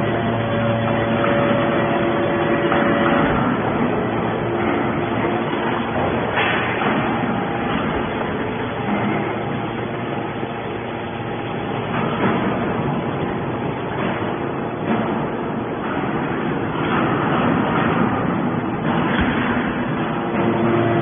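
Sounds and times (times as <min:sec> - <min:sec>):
hydraulic baler running: 0:00.0 - 0:21.0.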